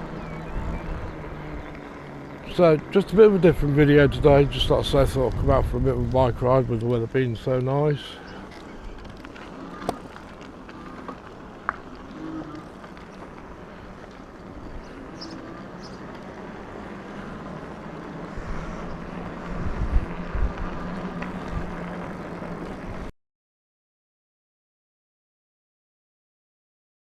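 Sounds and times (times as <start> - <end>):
steady low hum: 0.0 - 23.1
wind rushing over microphone: 0.0 - 23.1.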